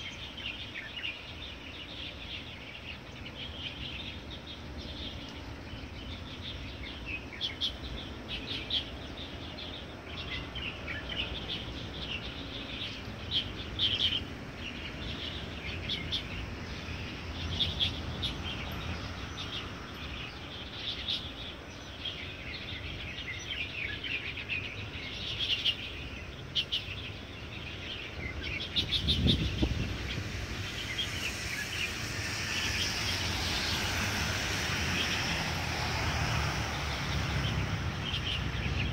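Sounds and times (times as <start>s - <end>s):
birds chirping and singing: 0.0s - 36.0s, 36.6s - 38.9s.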